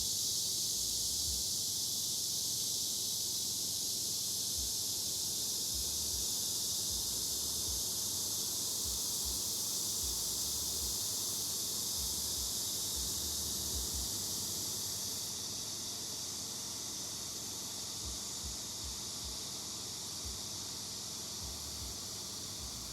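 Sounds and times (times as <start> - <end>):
steady high-pitched hiss: 0.0 - 22.9.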